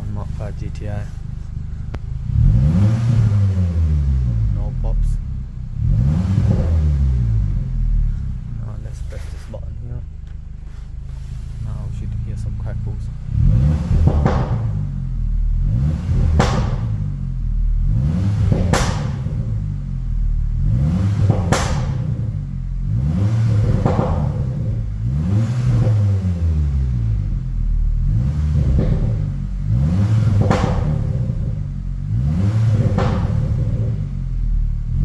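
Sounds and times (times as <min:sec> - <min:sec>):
exhaust pops and crackles: 0:00.0 - 0:26.1, 0:27.2 - 0:35.0
car engine revving: 0:00.0 - 0:35.0.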